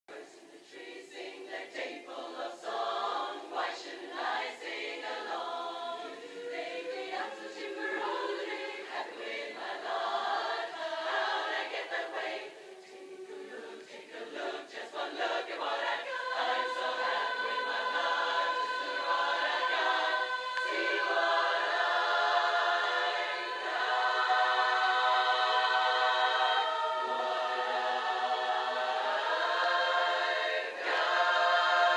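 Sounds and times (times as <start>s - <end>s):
women's chorus singing a cappella: 0.1s - 31.9s.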